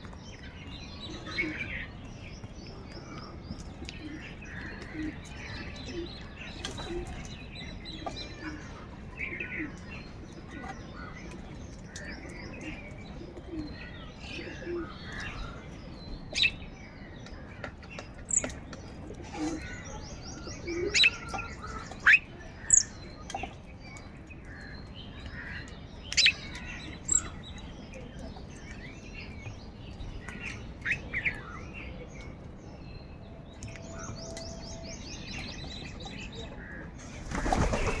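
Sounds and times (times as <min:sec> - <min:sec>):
birds chirping and calling: 0:00.0 - 0:38.0.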